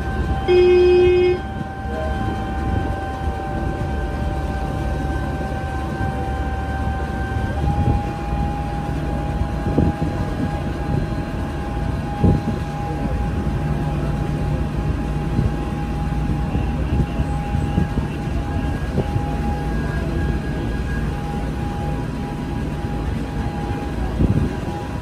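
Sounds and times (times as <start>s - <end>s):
boat engine drone with whine: 0.0s - 25.0s.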